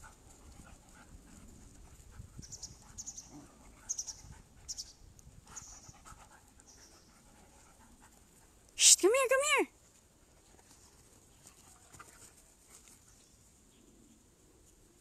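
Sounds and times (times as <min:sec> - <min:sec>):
dogs panting faintly: 0:00.0 - 0:08.8, 0:09.7 - 0:13.7.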